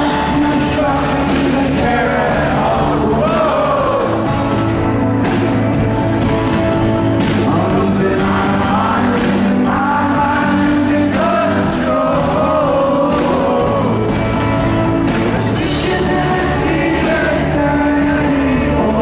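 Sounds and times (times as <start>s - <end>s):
person singing lead vocal: 0.0s - 5.4s, 7.2s - 19.0s
rock band playing live: 0.0s - 19.0s.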